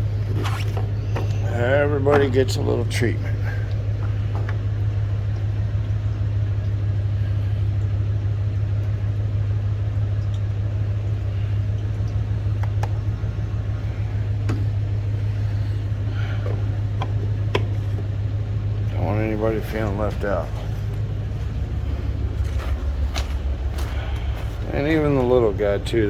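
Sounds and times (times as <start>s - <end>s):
engine idling hum: 0.0s - 26.0s.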